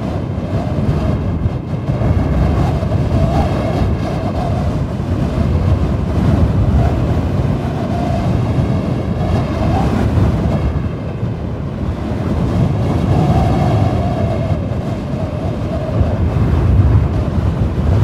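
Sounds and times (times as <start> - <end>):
strong wind howling: 0.0 - 18.0.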